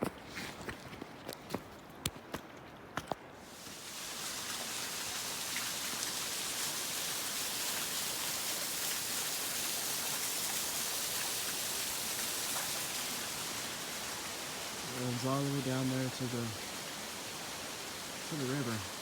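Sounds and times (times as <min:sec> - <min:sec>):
flowing creek water: 0:03.4 - 0:19.0.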